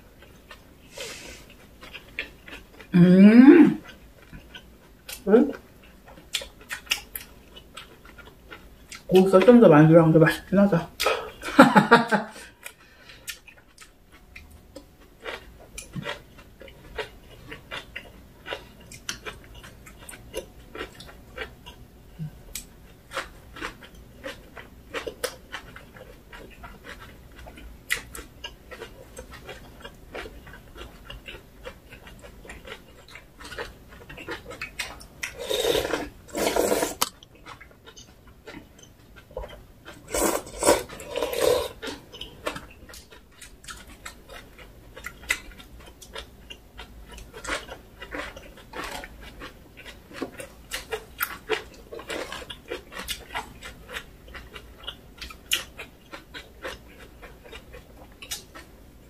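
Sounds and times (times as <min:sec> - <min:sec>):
person chewing food: 0:00.0 - 0:03.0, 0:03.7 - 0:09.2, 0:10.9 - 0:59.0.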